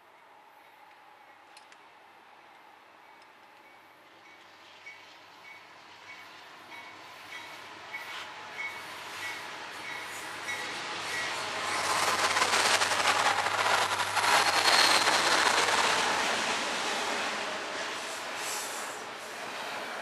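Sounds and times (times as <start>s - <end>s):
rumble of freight cars: 0.0s - 20.0s
diesel locomotives passing: 2.2s - 20.0s.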